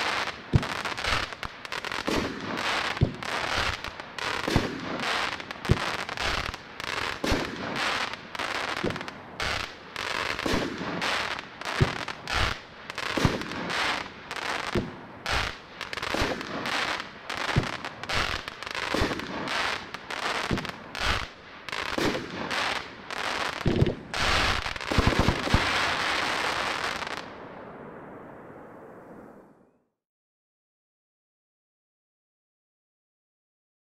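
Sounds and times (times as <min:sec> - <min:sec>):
fireworks firing shots: 0:00.0 - 0:27.2
hissing crackle of fireworks: 0:00.0 - 0:27.4.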